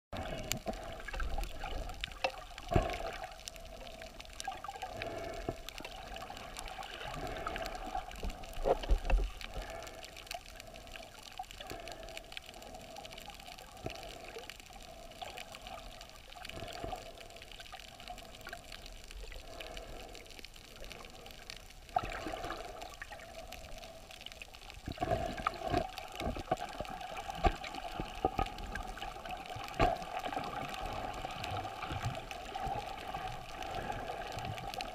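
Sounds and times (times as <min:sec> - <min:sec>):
water sloshing and bubbling: 0:00.1 - 0:34.9.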